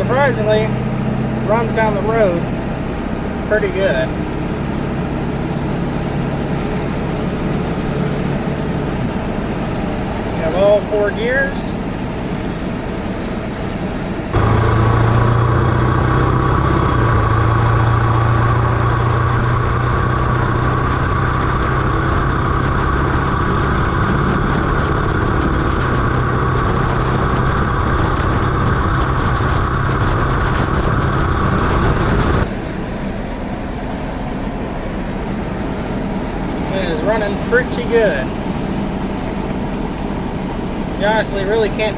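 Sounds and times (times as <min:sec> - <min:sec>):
diesel truck engine driving: 0:00.0 - 0:41.9
road noise: 0:00.0 - 0:41.9.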